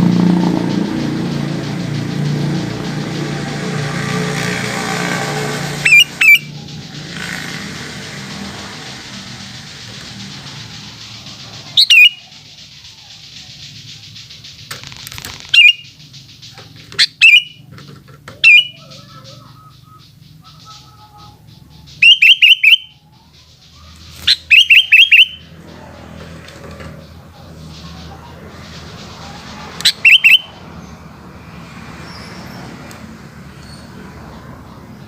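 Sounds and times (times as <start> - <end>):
bulbul calling: 0.0 - 32.8.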